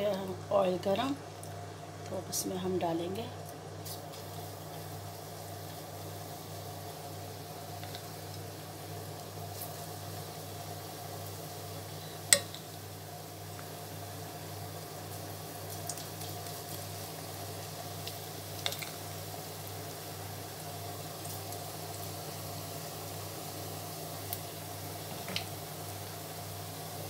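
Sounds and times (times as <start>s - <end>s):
batter sizzling in hot oil: 2.6s - 27.0s.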